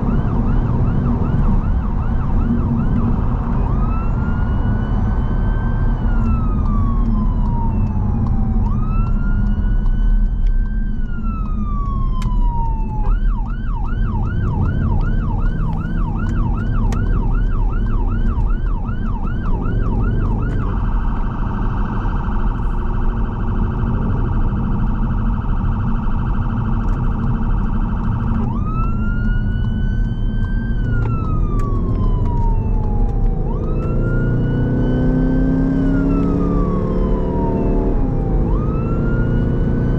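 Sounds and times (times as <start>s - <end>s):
road and engine noise: 0.0s - 39.9s
siren wailing and yelping: 0.0s - 39.9s.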